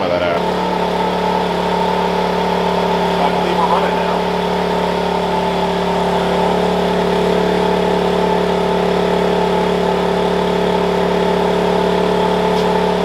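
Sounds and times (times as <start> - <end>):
air conditioner compressor running: 0.0 - 13.0
generator engine running: 0.0 - 13.0.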